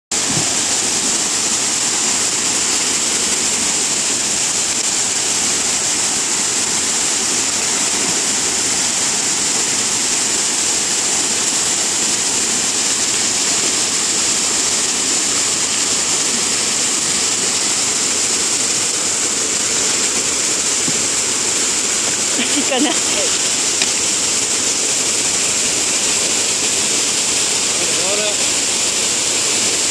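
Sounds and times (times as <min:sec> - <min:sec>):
water pouring over weir: 0:00.1 - 0:29.9.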